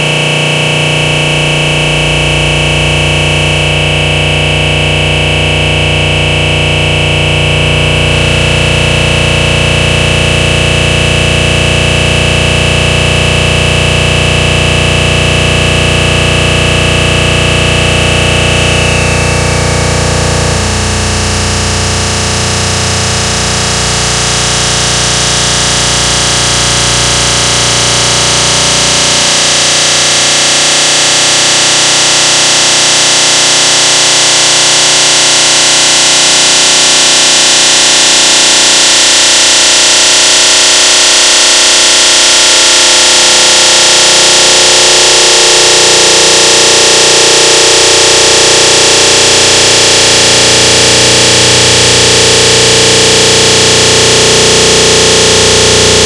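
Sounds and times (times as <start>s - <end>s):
distorted electronic noise: 0.0s - 56.0s.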